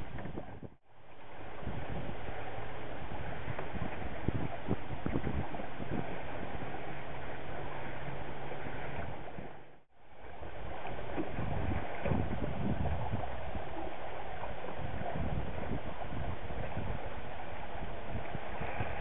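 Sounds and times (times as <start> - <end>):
choppy water slapping a hull: 0.0 - 19.0
wind buffeting the microphone: 0.0 - 19.0.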